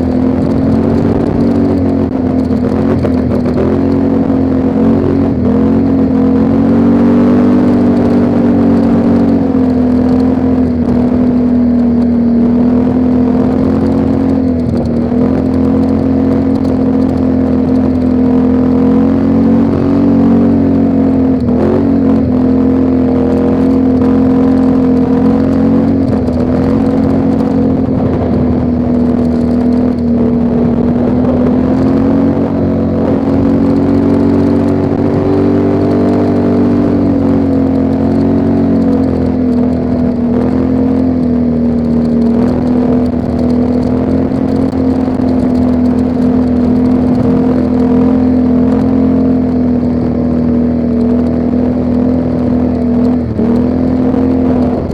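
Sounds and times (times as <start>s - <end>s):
atv engine running: 0.0s - 54.9s.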